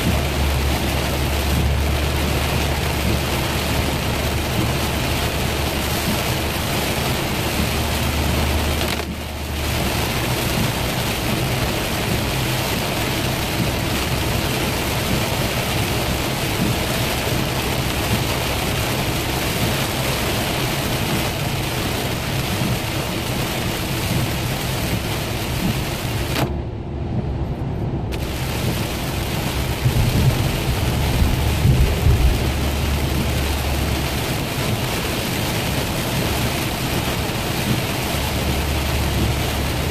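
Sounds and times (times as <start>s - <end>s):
deep rumble: 0.0s - 39.9s
heavy rain on windshield: 0.0s - 39.9s.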